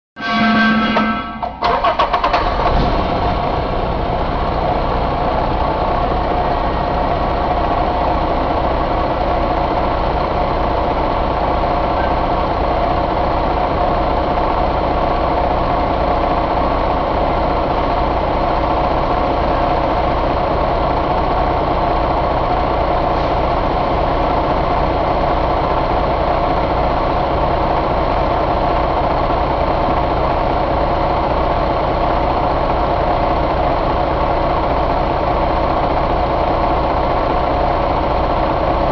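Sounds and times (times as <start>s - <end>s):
diesel engine idling: 1.1s - 38.9s.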